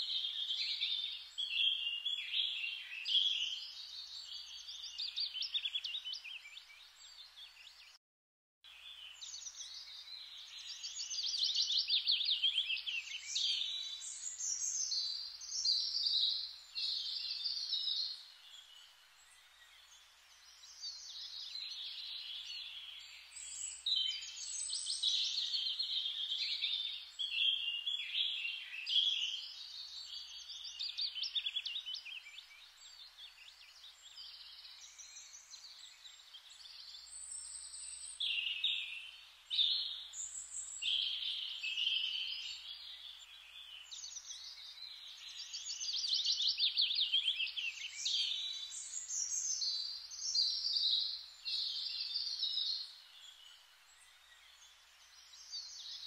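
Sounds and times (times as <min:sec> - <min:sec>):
small birds chirping and singing: 0:00.0 - 0:08.0, 0:08.6 - 0:56.0.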